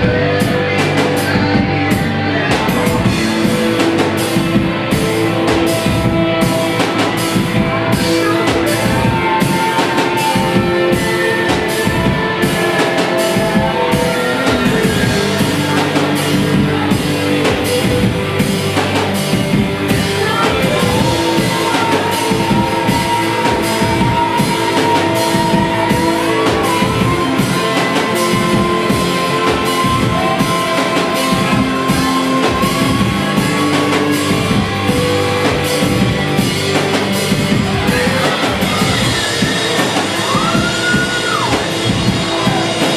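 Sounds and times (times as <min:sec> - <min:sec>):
drum kit beat: 0:00.0 - 0:42.9
electric guitars: 0:00.0 - 0:42.9.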